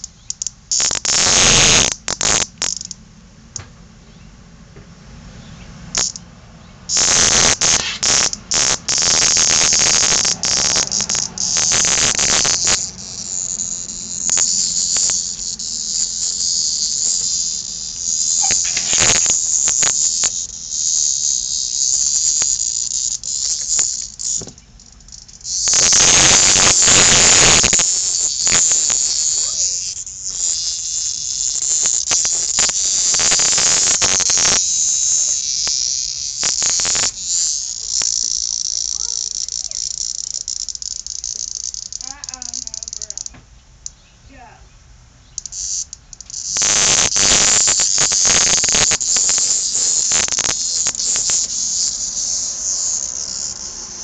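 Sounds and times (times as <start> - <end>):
cicada distress buzzing: 0.0 - 3.4, 5.4 - 54.0.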